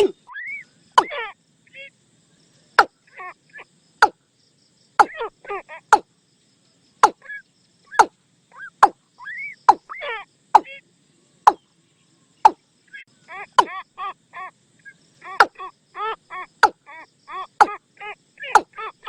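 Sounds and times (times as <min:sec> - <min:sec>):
faint high insect buzz: 0:00.0 - 0:19.0.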